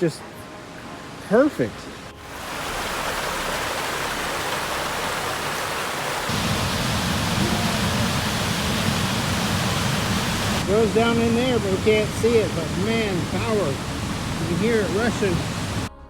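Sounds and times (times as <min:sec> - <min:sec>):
rushing river water: 0:00.0 - 0:15.9.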